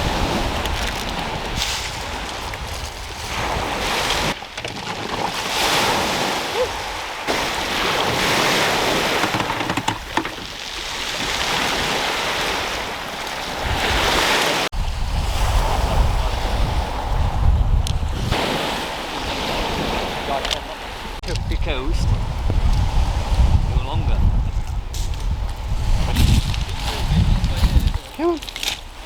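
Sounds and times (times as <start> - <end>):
wind buffeting microphone: 0.0 - 4.4, 5.9 - 29.0
sea waves washing onto beach: 0.0 - 22.2, 24.8 - 29.0.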